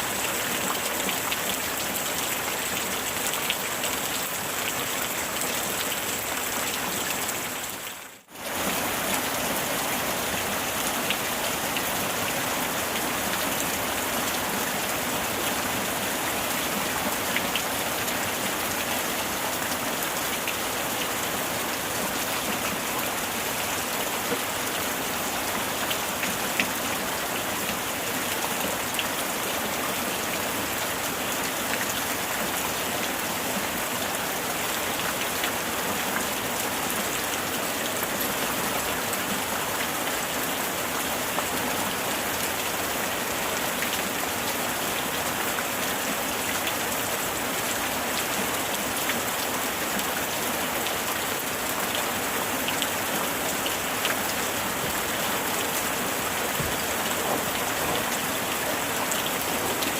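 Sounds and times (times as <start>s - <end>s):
heavy rainfall: 0.0s - 59.9s.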